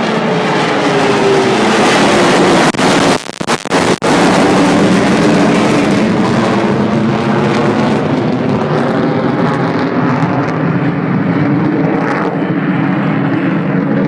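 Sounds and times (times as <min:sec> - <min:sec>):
jet roar on takeoff: 0:00.0 - 0:14.0.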